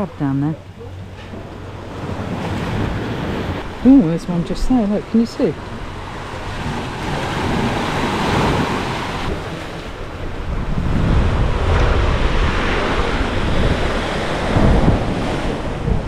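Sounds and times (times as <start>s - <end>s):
wind buffeting microphone: 0.0s - 16.0s
small waves breaking on beach: 1.8s - 16.0s.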